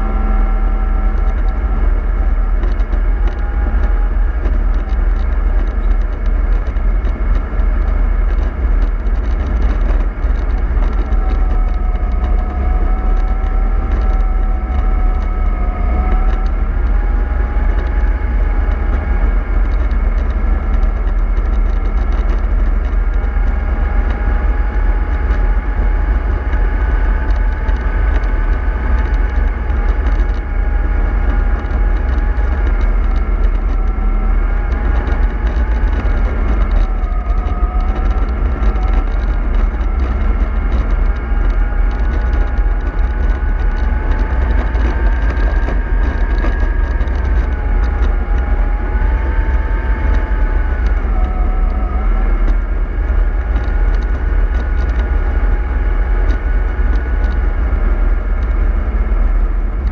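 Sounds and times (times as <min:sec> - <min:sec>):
low rumble: 0:00.0 - 0:59.9
model bus motor whine: 0:00.0 - 0:59.9.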